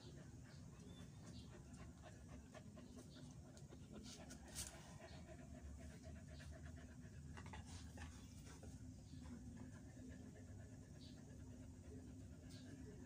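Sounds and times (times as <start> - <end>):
puppies breathing faintly: 0.0 - 13.0.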